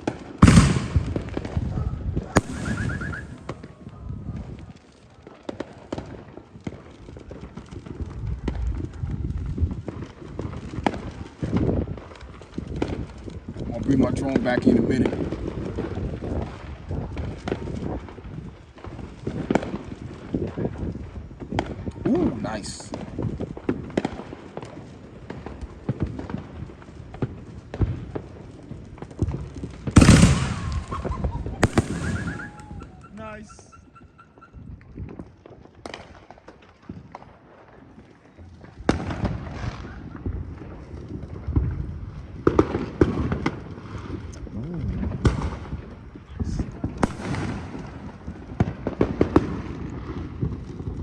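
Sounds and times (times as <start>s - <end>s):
fireworks popping and cracking: 0.0s - 51.0s.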